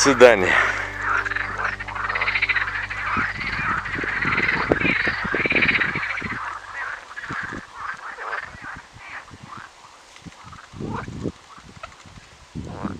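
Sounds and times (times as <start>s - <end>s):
frogs croaking chorus: 0.1s - 11.6s.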